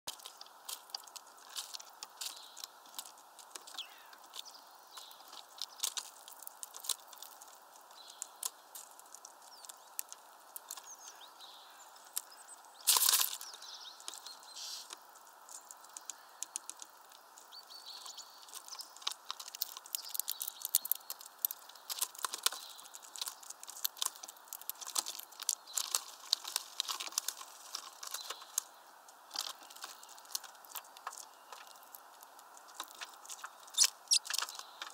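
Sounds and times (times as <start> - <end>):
birds pecking at plastic feeder: 0.1 - 34.9.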